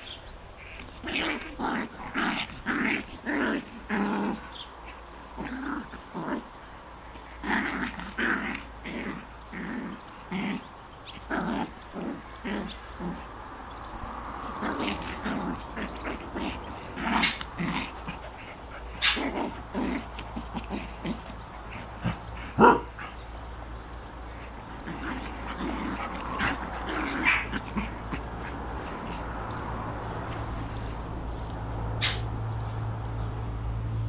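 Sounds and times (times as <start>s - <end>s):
dogs yipping and whining: 0.0s - 32.3s
dogs growling and grunting: 0.6s - 30.9s.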